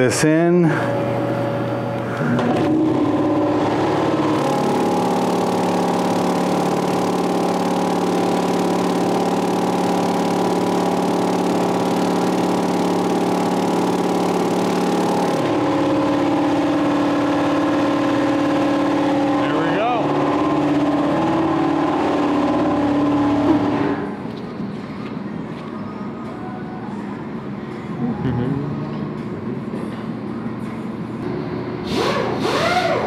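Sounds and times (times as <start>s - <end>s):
vibratory tumbler humming: 0.7s - 23.5s, 27.1s - 31.2s.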